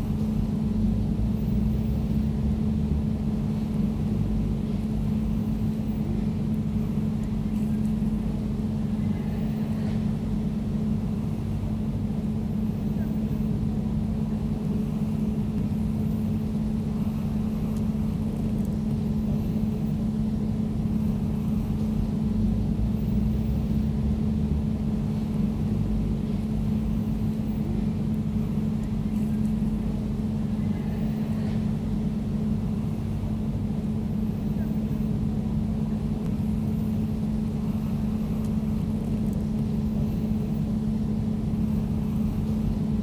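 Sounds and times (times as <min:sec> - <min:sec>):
air conditioner humming: 0:00.0 - 0:43.0.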